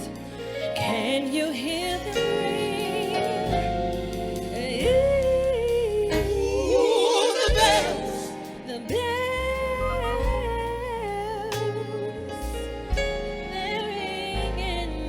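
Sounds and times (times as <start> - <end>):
person singing with vibrato: 0.0 - 12.5
instrumental backing with bass line: 0.0 - 15.0.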